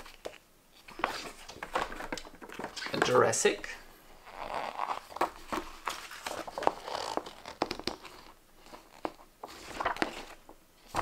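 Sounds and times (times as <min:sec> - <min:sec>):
paper rustling and crinkling: 0:00.0 - 0:03.4, 0:04.4 - 0:11.0.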